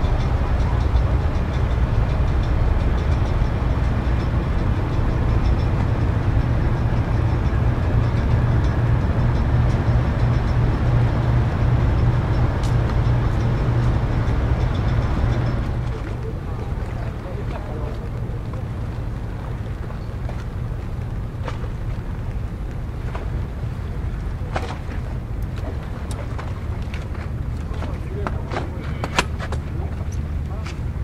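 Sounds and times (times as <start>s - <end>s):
ship diesel engines rumbling: 0.0s - 31.0s
water wash noise: 0.0s - 31.0s.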